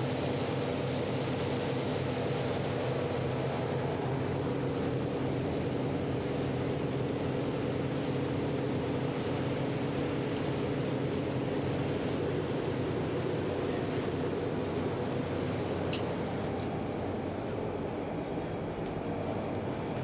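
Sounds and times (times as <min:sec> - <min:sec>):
boat engines droning: 0:00.0 - 0:20.0
rushing water: 0:00.0 - 0:20.0
wind: 0:00.0 - 0:20.0.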